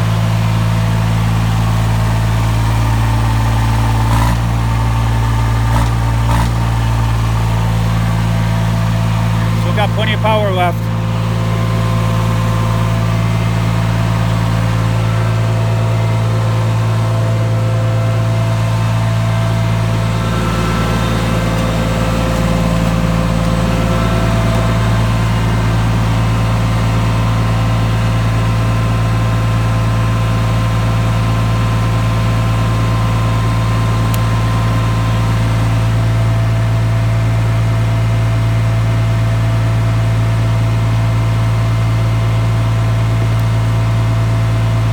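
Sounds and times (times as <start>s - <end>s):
generator hum: 0.0s - 44.9s
tractor diesel engine running: 0.0s - 44.9s.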